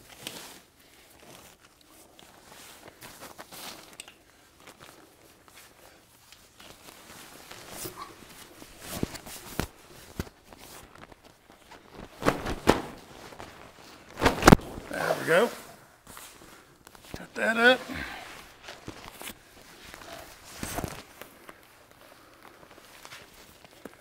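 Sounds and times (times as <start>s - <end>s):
fabric rustling: 0.0s - 24.0s.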